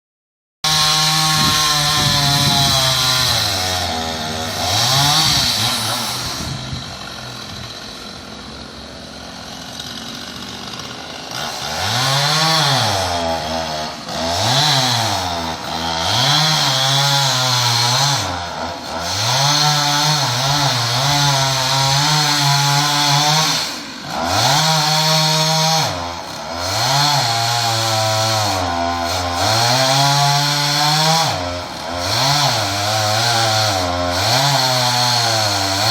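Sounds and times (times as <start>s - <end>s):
chainsaw cutting a tree: 0.6s - 35.9s.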